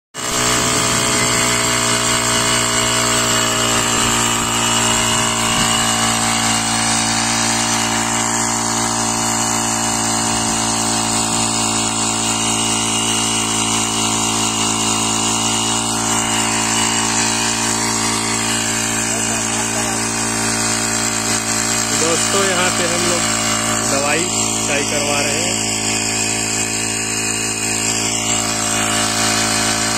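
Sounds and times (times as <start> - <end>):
hose gun spraying: 0.2 - 29.9
power sprayer engine running: 0.2 - 29.9.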